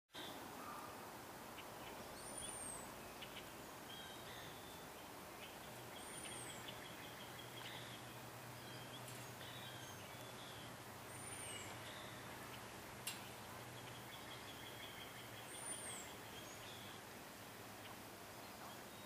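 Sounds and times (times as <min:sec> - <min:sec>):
bird calling: 0:00.2 - 0:17.1
faint bird chirps: 0:00.2 - 0:19.0.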